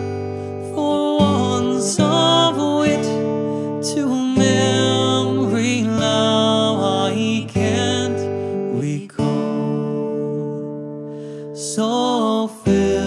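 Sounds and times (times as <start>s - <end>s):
acoustic guitar chords: 0.0s - 13.0s
person singing: 0.0s - 13.0s.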